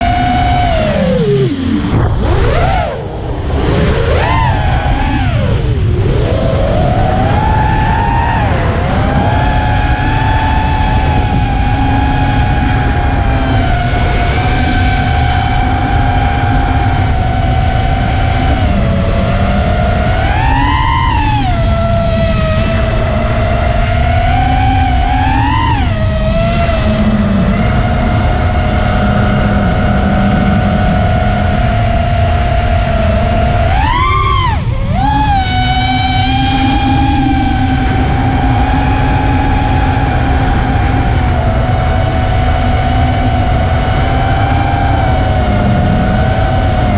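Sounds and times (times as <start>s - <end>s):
drone motors whining: 0.0s - 46.9s
low rumble: 0.0s - 46.9s
wind rush: 0.0s - 46.9s.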